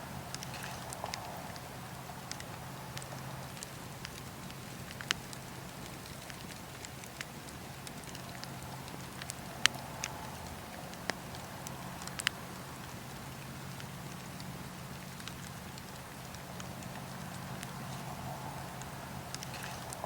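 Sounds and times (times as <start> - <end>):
campfire wood crackling: 0.0 - 20.0
steady low rush: 0.0 - 20.0.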